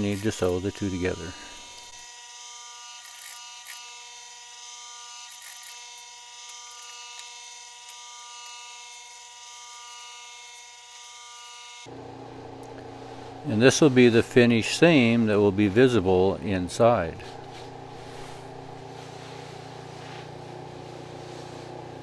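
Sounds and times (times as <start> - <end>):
sewing machine buzzing hum: 0.0 - 22.0.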